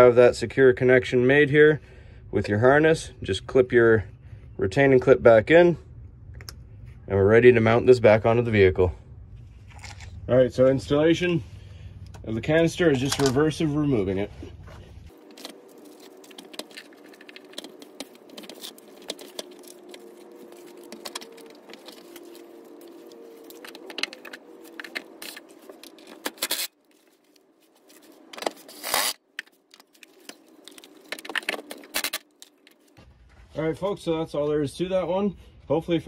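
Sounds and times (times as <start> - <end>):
steady hum: 1.1 - 33.5.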